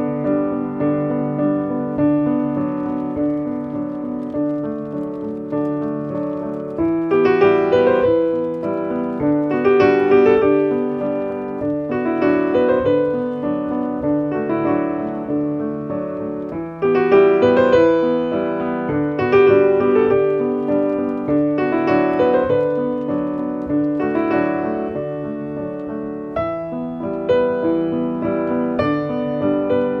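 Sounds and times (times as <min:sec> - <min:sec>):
piano piece: 0:00.0 - 0:30.0.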